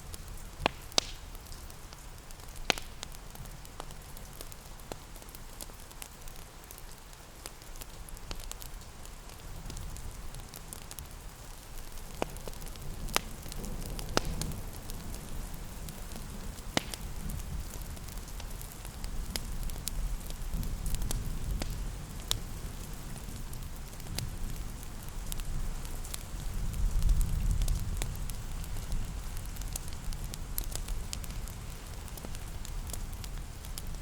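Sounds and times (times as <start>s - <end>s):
rain hissing: 0.0s - 34.0s
wood fire crackling and popping: 0.0s - 34.0s.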